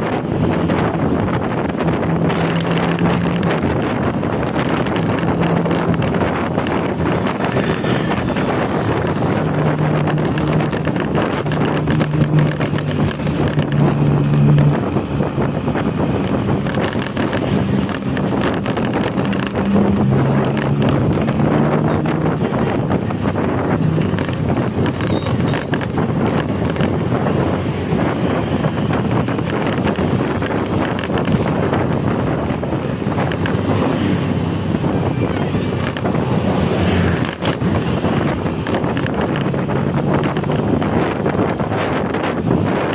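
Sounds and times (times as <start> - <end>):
road noise: 0.0 - 42.9
vehicle engine humming: 0.0 - 42.9
wind noise on microphone: 0.0 - 42.9.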